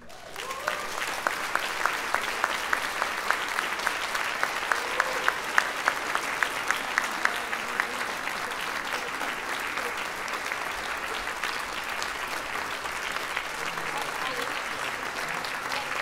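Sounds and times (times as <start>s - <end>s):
audience applauding: 0.0s - 16.0s
nearby hands clapping: 0.0s - 16.0s.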